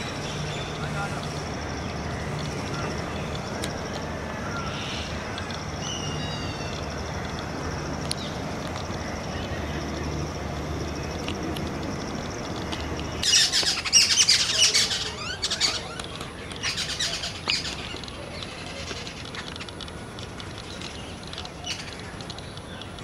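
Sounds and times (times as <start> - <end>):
outdoor background noise: 0.0 - 23.0
small birds chirping: 0.0 - 23.0.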